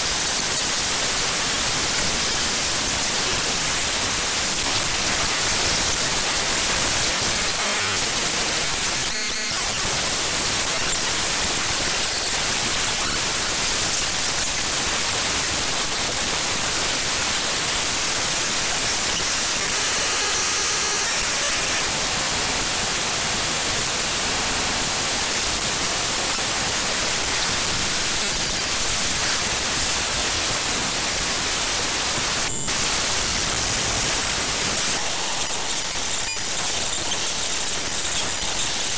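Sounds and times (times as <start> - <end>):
harsh static-like noise: 0.0 - 38.9.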